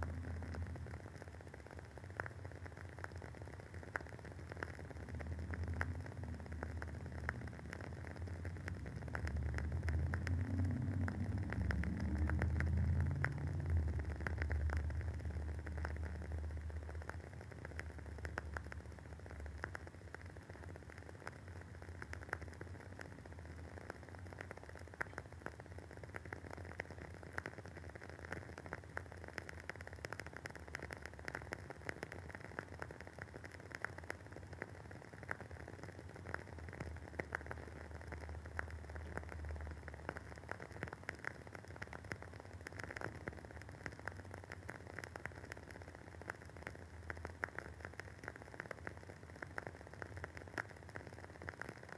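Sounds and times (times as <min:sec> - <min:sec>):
candle wick crackling: 0:00.0 - 0:51.9
low steady hum: 0:00.0 - 0:51.9.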